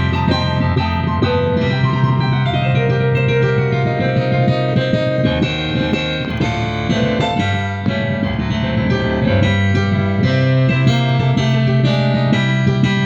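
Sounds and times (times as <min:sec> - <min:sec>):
piano-like keyboard melody: 0:00.0 - 0:13.0.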